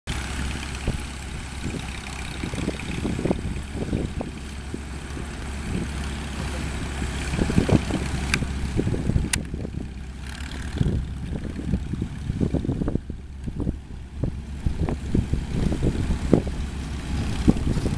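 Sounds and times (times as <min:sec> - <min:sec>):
tractor engines running: 0:00.1 - 0:17.9.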